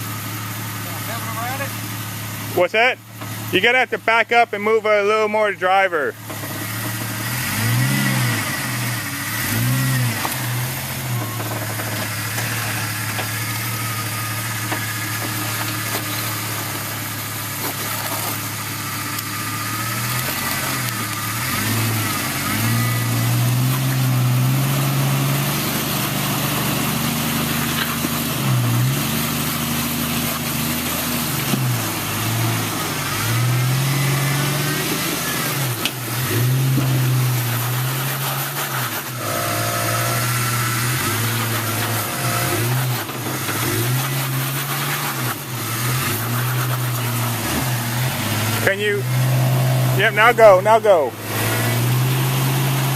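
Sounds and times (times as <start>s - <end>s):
engine revving: 0.0s - 52.9s.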